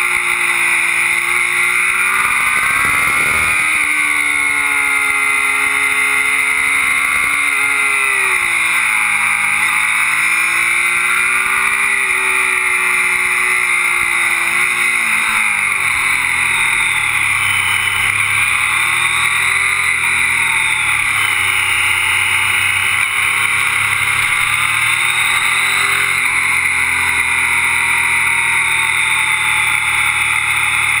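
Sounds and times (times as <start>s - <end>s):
motorcycle engine revving: 0.0s - 31.0s
road noise: 0.0s - 31.0s.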